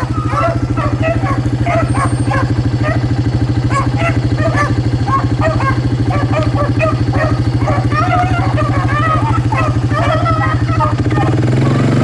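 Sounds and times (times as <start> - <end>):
dogs baying and barking: 0.0 - 12.0
small engine running: 0.0 - 12.0.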